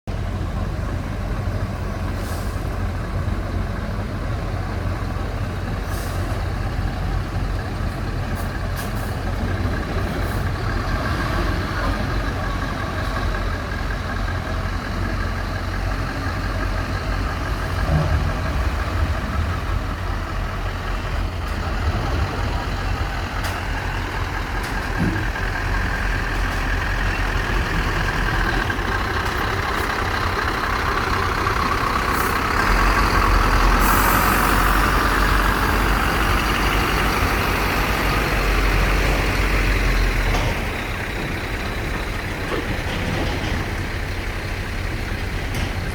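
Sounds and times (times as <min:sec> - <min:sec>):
heavy vehicle rumbling: 0:00.0 - 0:45.9.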